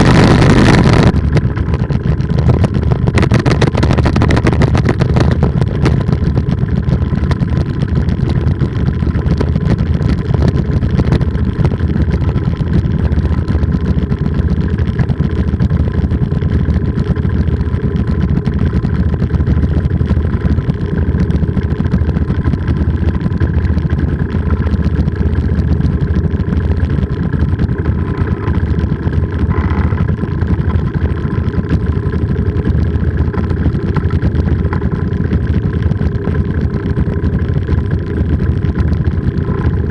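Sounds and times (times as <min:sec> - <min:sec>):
two-stroke engine running: 0:00.0 - 0:39.9.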